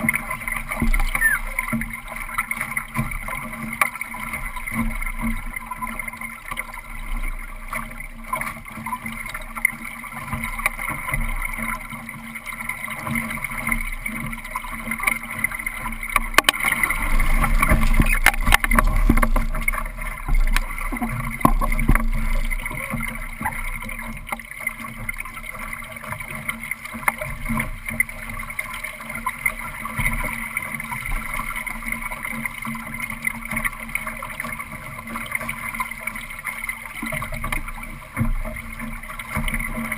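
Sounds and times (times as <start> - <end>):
water rushing along hull: 0.0 - 39.9
boat knocks and rattles: 7.7 - 39.9.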